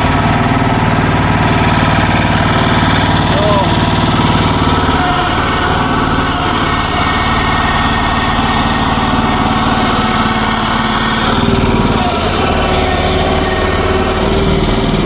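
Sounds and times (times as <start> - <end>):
small excavator engine running: 0.0 - 15.0.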